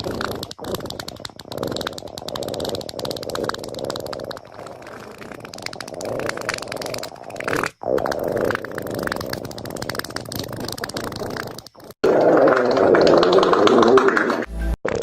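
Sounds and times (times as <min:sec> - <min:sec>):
stomach growl and fart noises: 0:00.0 - 0:15.0.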